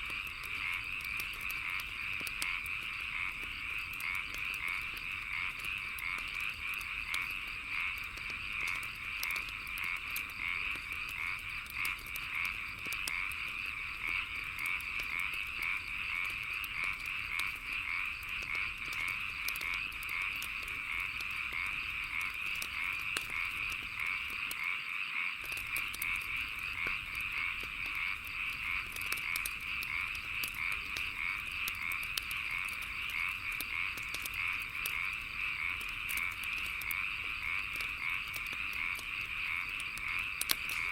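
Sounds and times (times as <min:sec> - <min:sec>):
wood fire crackling: 0:00.0 - 0:24.7, 0:25.4 - 0:40.9
frogs croaking: 0:00.0 - 0:40.9
insects: 0:00.0 - 0:40.9.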